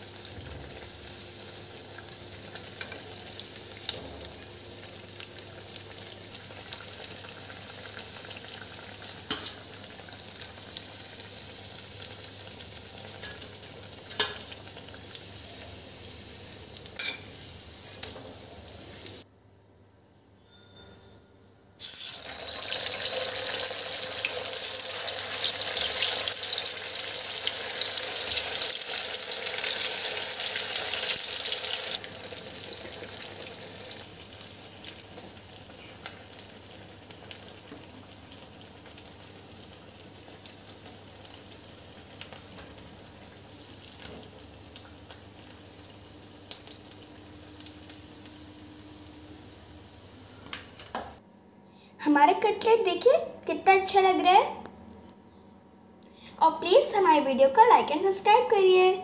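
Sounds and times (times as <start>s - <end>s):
food deep-frying in oil: 0.0s - 19.2s, 21.8s - 51.2s.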